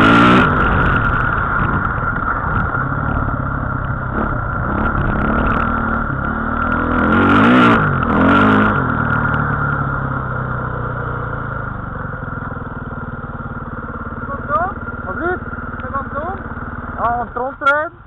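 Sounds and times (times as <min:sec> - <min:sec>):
vehicle engine revving: 0:00.0 - 0:17.8.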